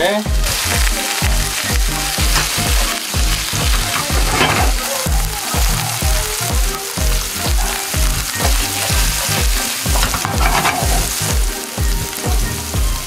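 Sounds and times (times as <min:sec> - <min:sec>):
background music with steady beat: 0:00.0 - 0:13.0
garlic sizzling in oil: 0:00.0 - 0:13.0.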